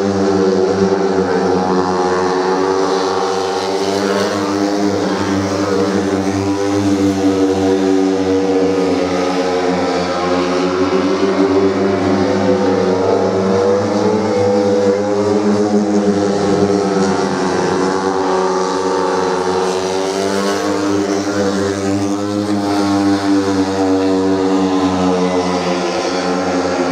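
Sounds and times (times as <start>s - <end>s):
motorcycles racing at high revs: 0.0s - 26.9s.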